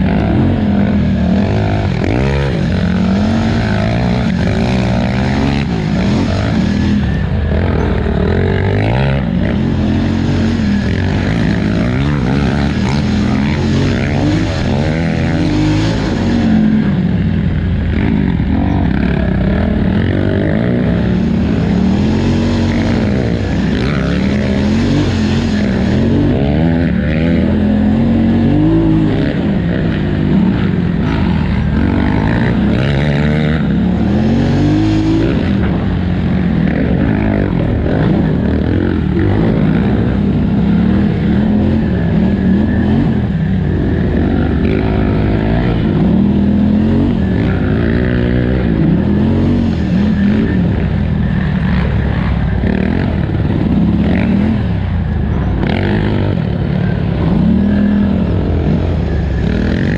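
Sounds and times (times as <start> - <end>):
off-road vehicle engine racing: 0.0 - 59.9.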